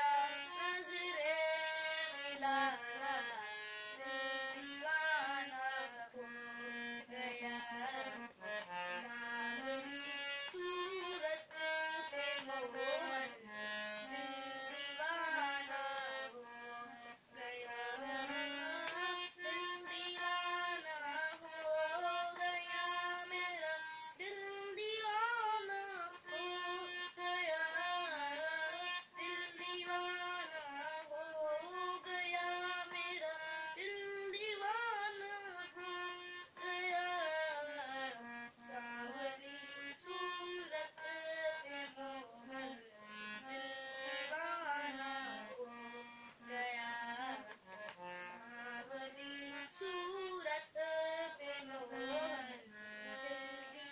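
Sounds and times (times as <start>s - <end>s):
boy singing: 0.0s - 53.9s
harmonium melody: 0.0s - 53.9s.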